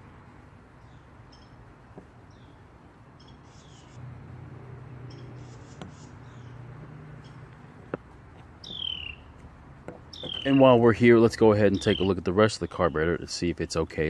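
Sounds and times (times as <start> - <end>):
low steady hum: 0.0 - 14.0
small birds chirping: 0.7 - 4.0, 4.7 - 14.0.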